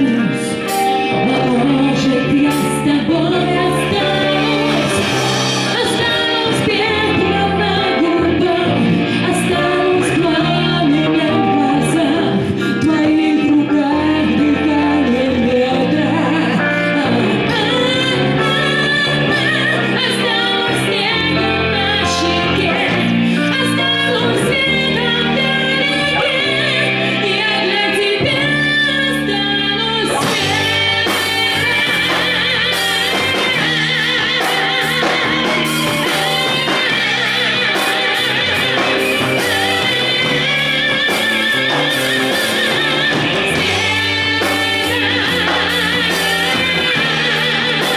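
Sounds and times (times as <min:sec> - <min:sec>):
live pop band instrumental: 0:00.0 - 0:47.9.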